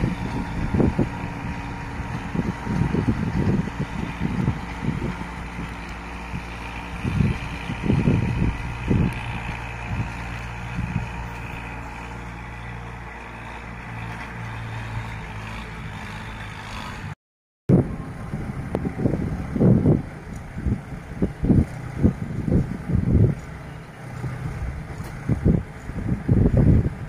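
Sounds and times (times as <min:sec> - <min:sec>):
wind buffeting microphone: 0:00.0 - 0:12.8, 0:17.7 - 0:27.0
distant tractor diesel engine: 0:00.0 - 0:27.0.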